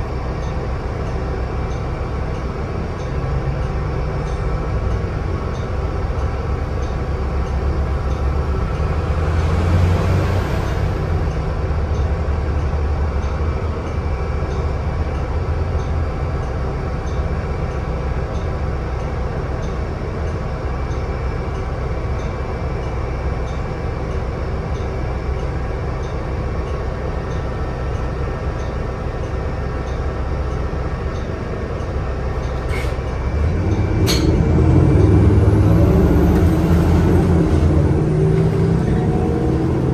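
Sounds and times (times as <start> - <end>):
bus engine droning: 0.0 - 39.9
road noise: 0.8 - 39.9.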